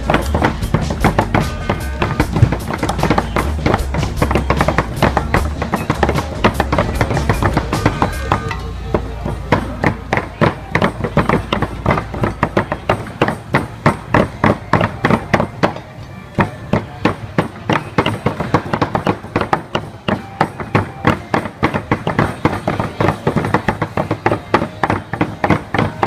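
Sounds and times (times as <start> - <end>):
cleavers chopping on wooden boards: 0.0 - 26.0.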